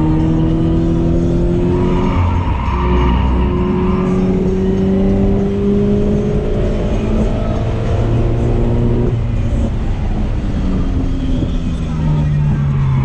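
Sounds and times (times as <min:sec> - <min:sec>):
car engine revving through gear: 0:00.0 - 0:11.5.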